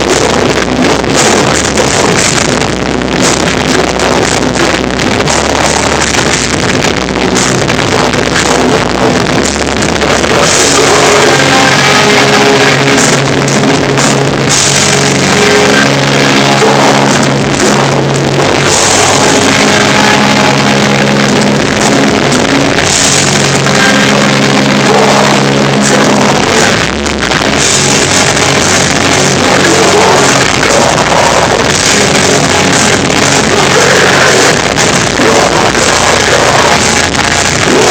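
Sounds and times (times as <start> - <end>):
hardcore band playing live: 0.0 - 37.9.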